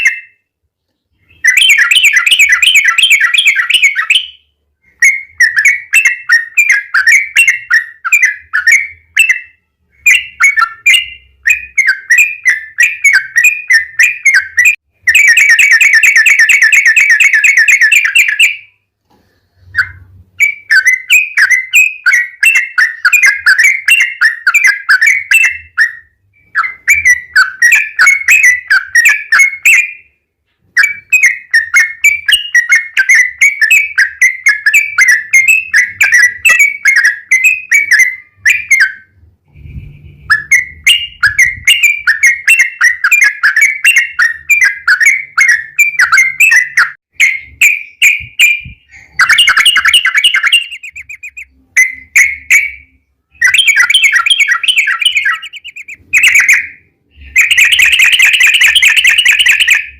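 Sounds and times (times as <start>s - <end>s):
bulbul singing rolling song: 0.0s - 59.9s.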